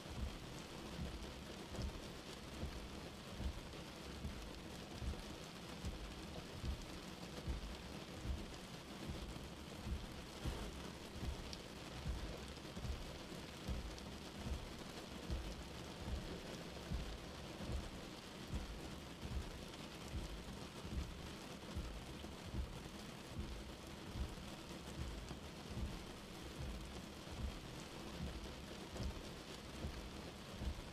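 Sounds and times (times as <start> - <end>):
rain on car windscreen: 0.0 - 30.9.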